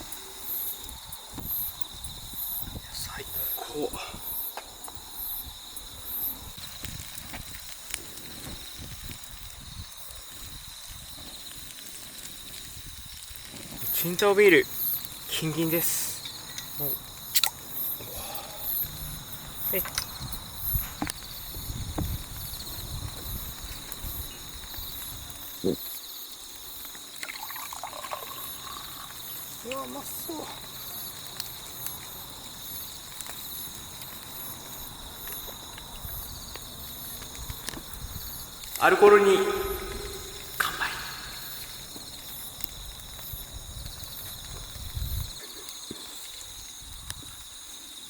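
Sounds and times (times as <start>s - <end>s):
insects trilling: 0.0s - 48.0s.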